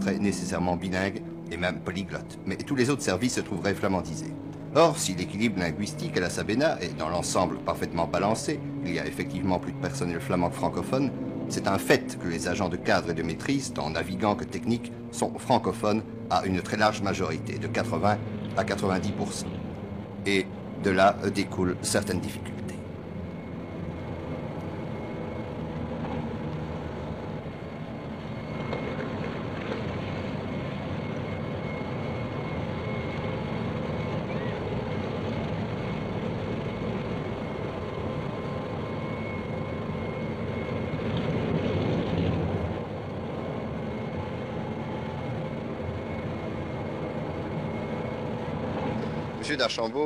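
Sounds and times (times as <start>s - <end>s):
aircraft engine noise: 0.0s - 50.0s.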